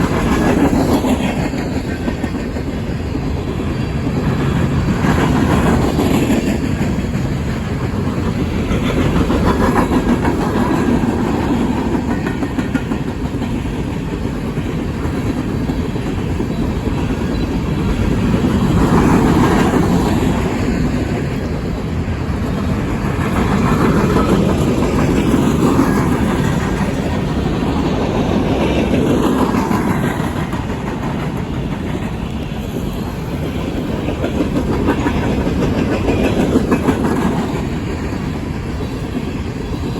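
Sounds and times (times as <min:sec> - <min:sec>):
train cars rumbling on rails: 0:00.0 - 0:39.9
wheels clacking over rail joints: 0:00.0 - 0:39.9.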